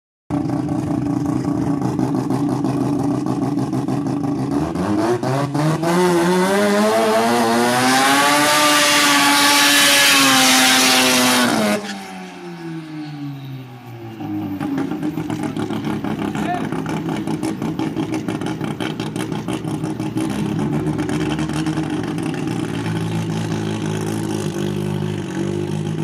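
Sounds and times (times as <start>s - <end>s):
race car engine revving: 0.3s - 13.2s, 14.4s - 26.0s.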